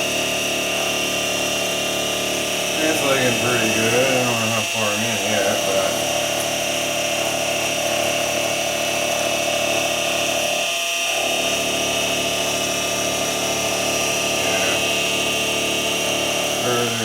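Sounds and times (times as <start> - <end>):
milling machine motor whine: 0.0 - 17.0.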